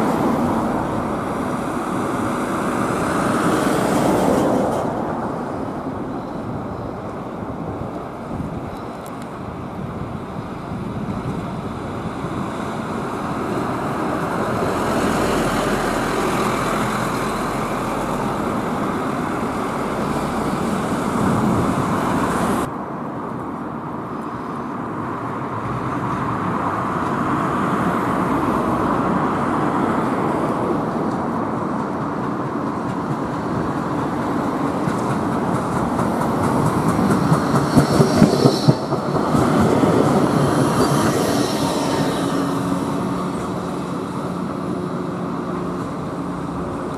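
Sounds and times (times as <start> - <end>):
sharp tram clicks: 0.0 - 23.5, 25.3 - 46.9
bus driving past: 0.0 - 46.9
tram passing on track: 0.0 - 46.9.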